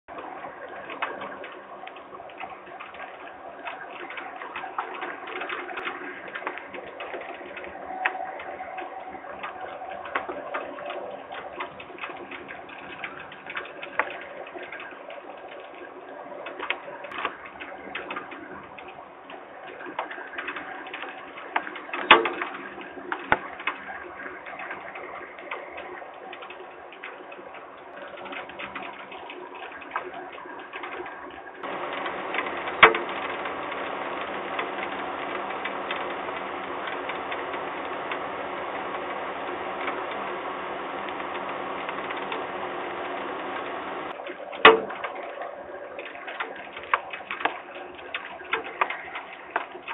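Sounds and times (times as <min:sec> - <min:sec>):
heavy rain on wooden box: 0:00.1 - 0:49.9.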